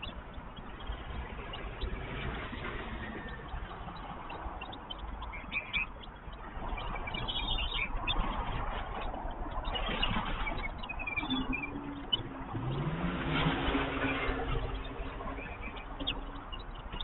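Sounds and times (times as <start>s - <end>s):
high bird chirps: 0.0s - 13.0s, 13.8s - 17.0s
steady rushing background: 0.0s - 17.0s.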